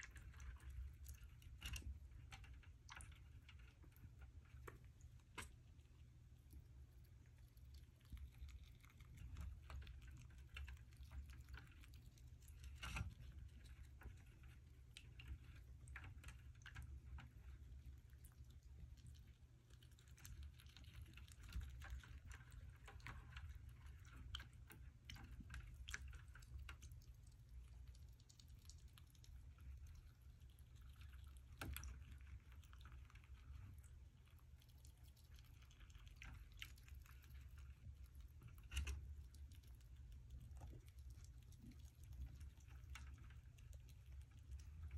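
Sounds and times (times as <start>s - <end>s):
faint irregular clicks: 0.0s - 44.9s
low steady hum: 0.0s - 44.9s
rats chewing: 0.0s - 44.9s.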